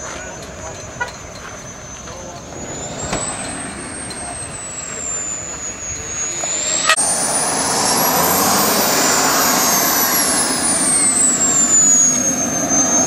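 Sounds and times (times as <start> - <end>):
model jet engine whine: 0.0 - 13.0
rushing hiss: 2.2 - 13.0.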